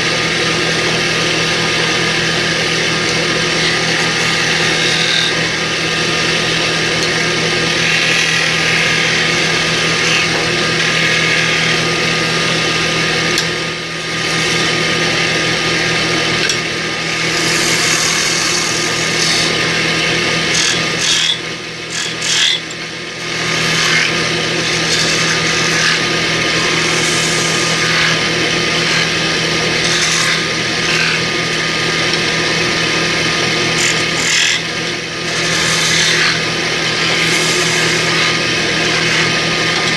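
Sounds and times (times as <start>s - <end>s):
chisel scraping spinning wood: 0.0s - 39.9s
wood lathe humming: 0.0s - 39.9s.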